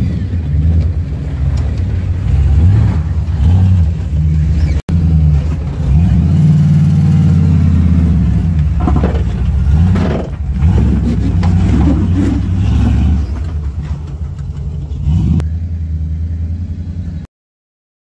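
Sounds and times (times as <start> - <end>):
truck engine at low revs: 0.0 - 17.3.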